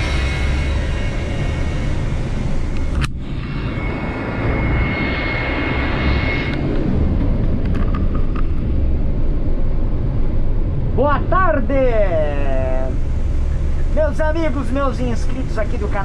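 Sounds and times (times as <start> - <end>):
bus engine and tyre rumble: 0.0 - 16.0
rushing wind: 0.0 - 16.0.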